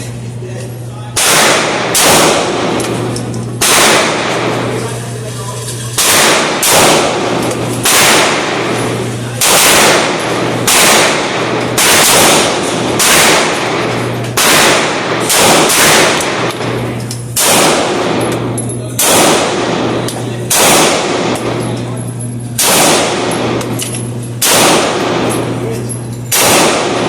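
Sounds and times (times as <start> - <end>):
echoing gunshots: 1.1 - 5.2, 6.0 - 21.9, 22.5 - 25.7, 26.3 - 27.0.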